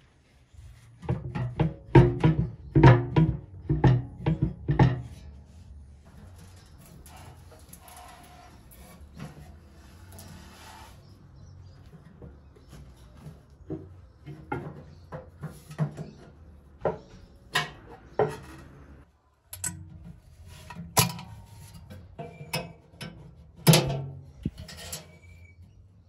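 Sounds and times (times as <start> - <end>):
metallic clanks and rattles: 1.0 - 26.0.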